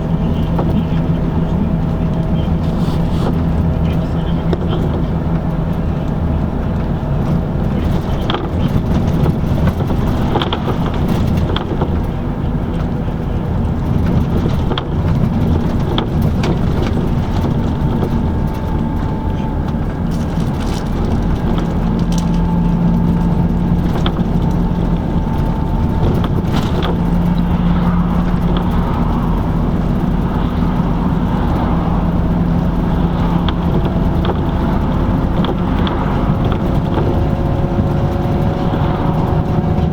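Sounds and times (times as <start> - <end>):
bus engine running: 0.0 - 39.9
road and tyre noise: 0.0 - 39.9.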